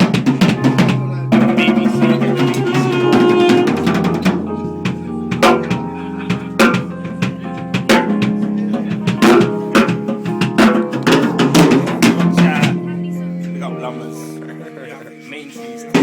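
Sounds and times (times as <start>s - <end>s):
drum kit: 0.0s - 12.9s
band playing: 0.0s - 14.8s, 15.8s - 16.0s.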